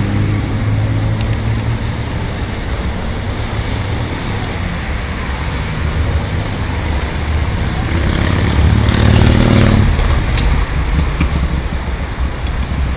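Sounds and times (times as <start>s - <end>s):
cars driving past: 0.0s - 12.9s.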